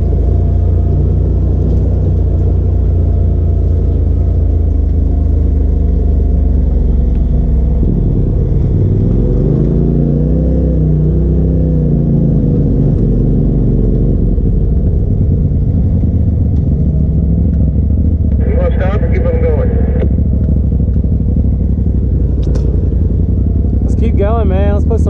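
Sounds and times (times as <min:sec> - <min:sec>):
engine heavy rumble: 0:00.0 - 0:25.0.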